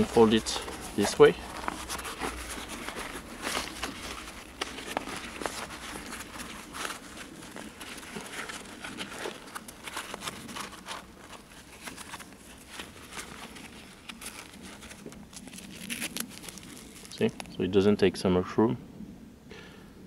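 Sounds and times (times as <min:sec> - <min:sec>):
nylon fabric rustling: 0:00.0 - 0:17.6
small clicks and scrapes: 0:00.6 - 0:17.5.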